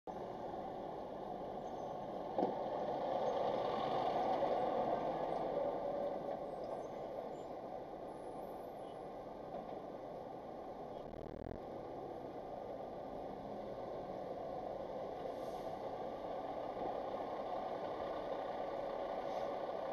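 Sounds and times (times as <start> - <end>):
truck passing: 0.2 - 8.8, 11.6 - 19.9.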